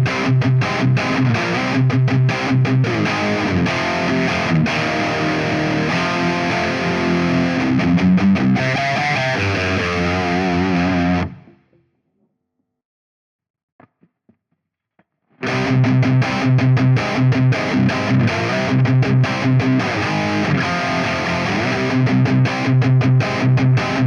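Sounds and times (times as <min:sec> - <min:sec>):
distorted electric guitar riff: 0:00.0 - 0:11.6, 0:15.4 - 0:24.0.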